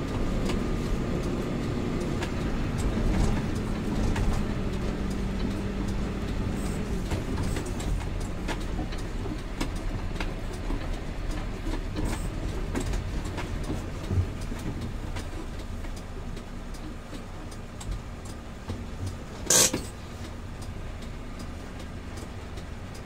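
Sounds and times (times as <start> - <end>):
light rattles and clicks: 0.0 - 23.0
truck diesel engine rumble: 0.0 - 23.0.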